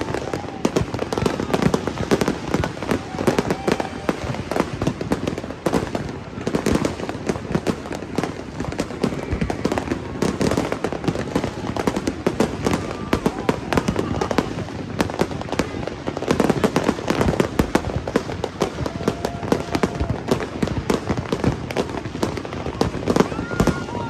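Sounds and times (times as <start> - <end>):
fireworks and firecrackers bangs: 0.0 - 24.0.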